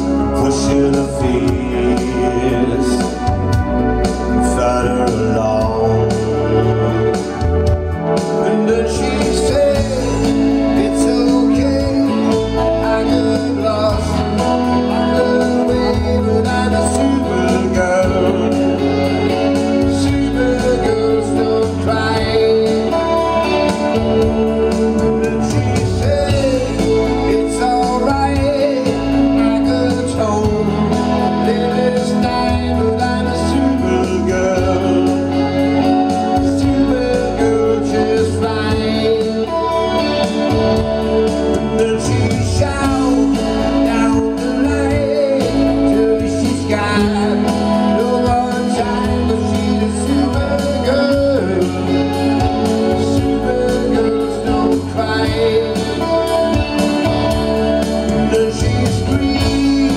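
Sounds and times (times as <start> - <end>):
bass line: 0.0 - 59.9
electric guitar: 0.0 - 59.9
keyboard accompaniment: 0.0 - 59.9
man singing: 0.0 - 59.9.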